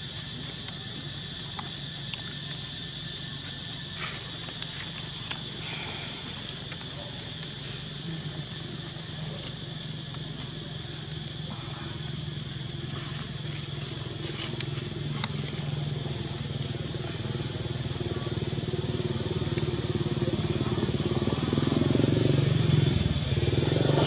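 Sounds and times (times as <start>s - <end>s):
steady high hiss: 0.0s - 24.0s
small engine droning: 2.0s - 24.0s.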